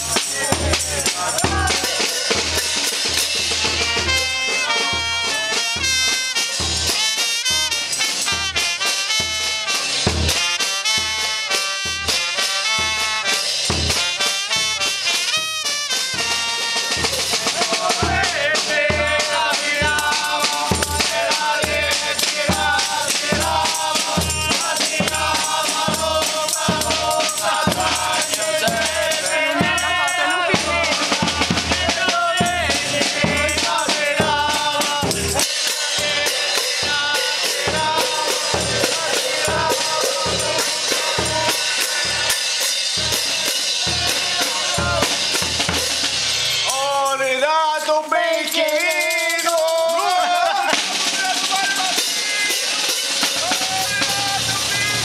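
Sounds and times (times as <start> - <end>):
street band playing: 0.0 - 55.0.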